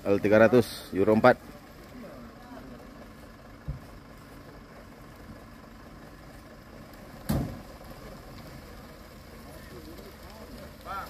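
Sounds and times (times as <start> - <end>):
diesel truck engines idling: 0.0 - 11.0.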